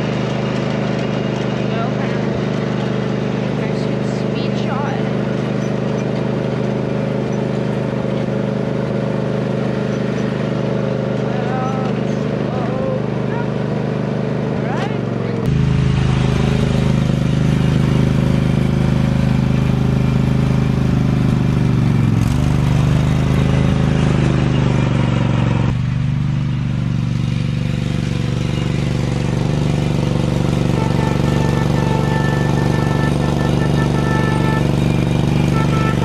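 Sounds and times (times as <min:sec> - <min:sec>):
riding lawn tractor engine running: 0:00.0 - 0:36.0.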